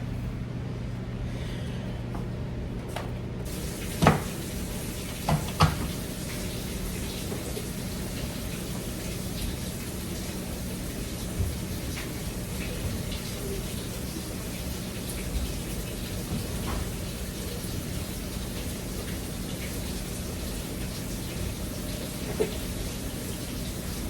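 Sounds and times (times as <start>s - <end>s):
running water: 3.4s - 24.0s.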